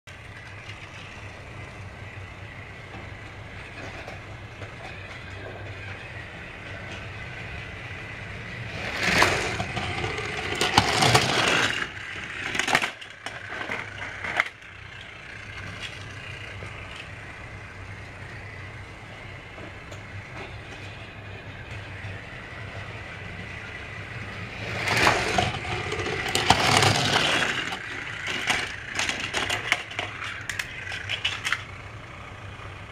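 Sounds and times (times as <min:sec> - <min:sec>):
toy train motor humming: 0:00.1 - 0:32.9
loud clattering and crackling: 0:02.4 - 0:22.8, 0:23.5 - 0:32.1.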